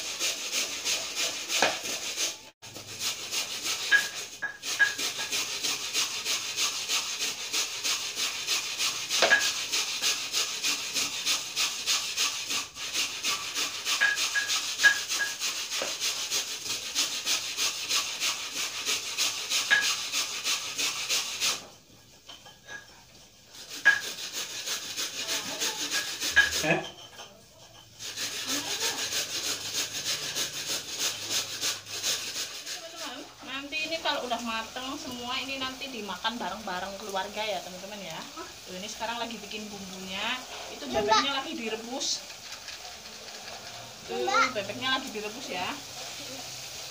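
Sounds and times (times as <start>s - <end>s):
metal blade scraping coconut: 0.0s - 21.7s, 22.4s - 39.6s, 40.5s - 46.3s.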